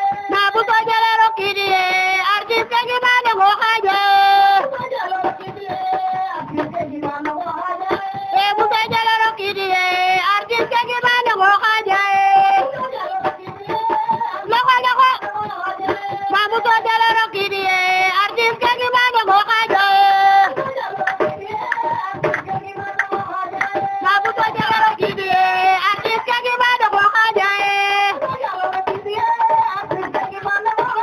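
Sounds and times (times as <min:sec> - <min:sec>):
drum beaten with stick: 0:00.0 - 0:31.0
hand clapping: 0:00.0 - 0:31.0
women singing together: 0:00.0 - 0:31.0.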